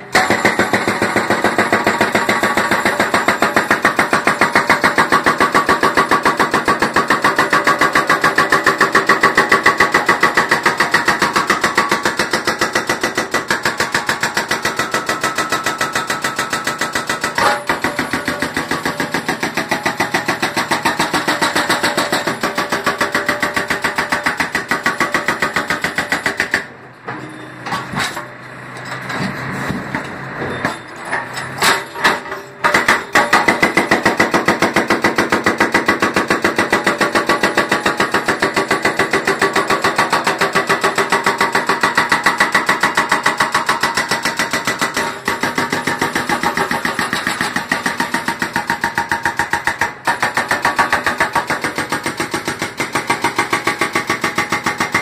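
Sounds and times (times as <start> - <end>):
hydraulic breaker hammering concrete: 0.0 - 26.9, 27.7 - 55.0.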